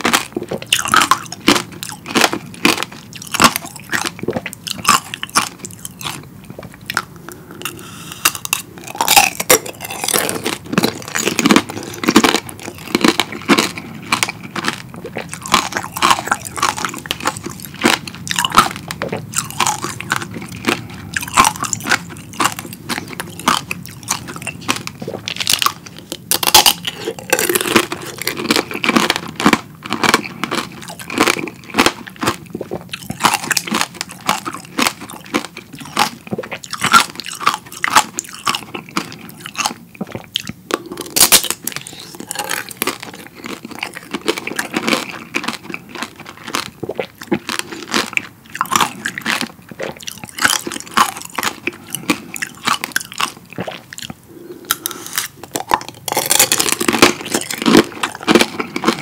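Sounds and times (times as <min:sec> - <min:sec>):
candy shell crunching: 0:00.0 - 0:59.0
chewing fruit: 0:00.0 - 0:59.0.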